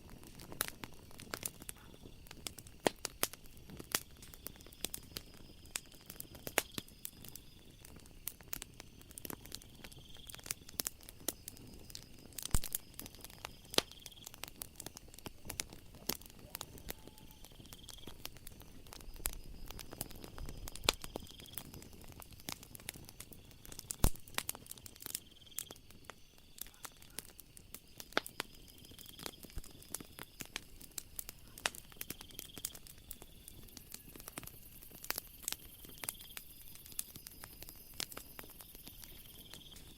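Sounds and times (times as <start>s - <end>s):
night insects chirping: 0.0s - 39.9s
wood fire crackling: 0.0s - 39.9s.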